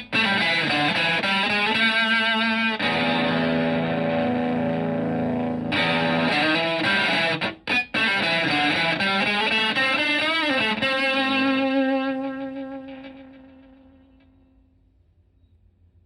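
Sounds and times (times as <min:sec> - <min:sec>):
fuzzy distorted electric guitar: 0:00.0 - 0:14.4.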